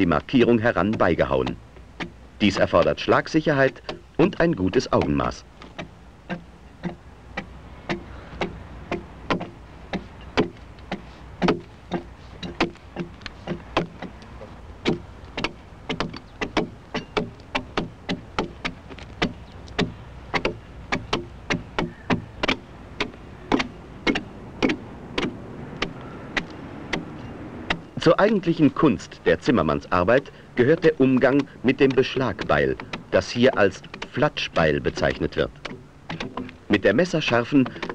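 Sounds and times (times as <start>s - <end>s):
axes chopping wood: 0.1s - 7.0s, 7.9s - 28.8s, 29.5s - 37.9s.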